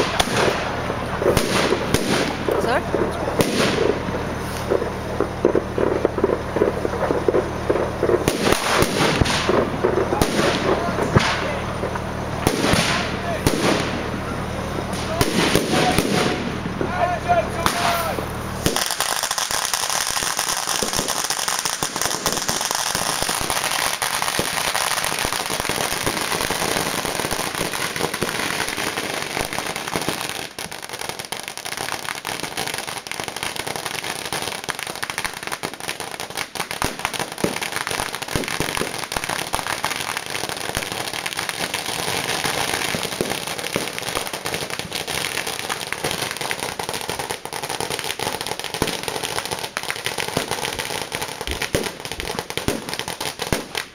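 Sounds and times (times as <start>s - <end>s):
fireworks bangs: 0.0s - 53.9s
fireworks crackling: 0.0s - 53.9s.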